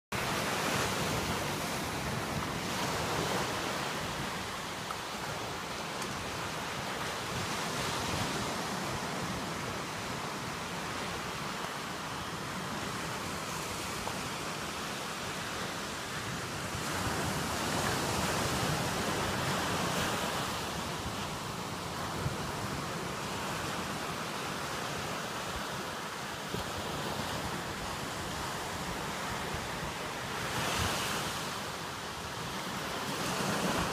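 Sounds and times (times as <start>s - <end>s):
small waves breaking on sand: 0.2s - 33.9s.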